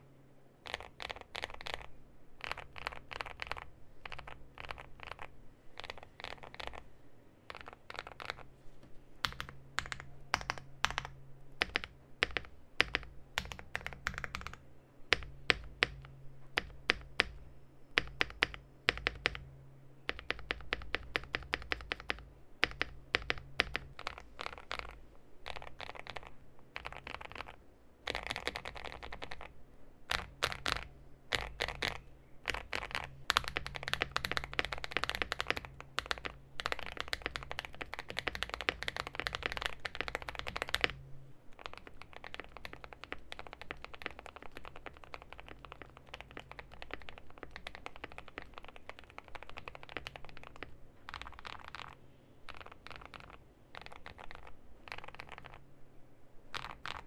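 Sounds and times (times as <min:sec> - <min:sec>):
mechanical keyboard typing: 0:00.6 - 0:06.8, 0:07.5 - 0:08.5, 0:09.2 - 0:17.4, 0:18.0 - 0:19.5, 0:20.1 - 0:29.5, 0:30.1 - 0:55.6, 0:56.5 - 0:57.0.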